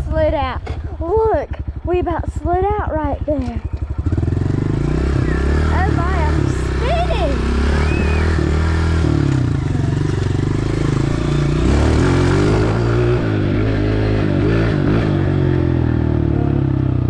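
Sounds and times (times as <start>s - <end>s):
dirt bike engine revving: 1.9s - 17.0s.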